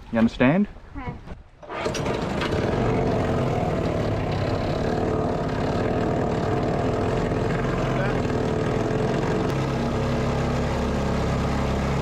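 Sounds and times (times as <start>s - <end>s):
boat engine running: 1.6s - 12.0s.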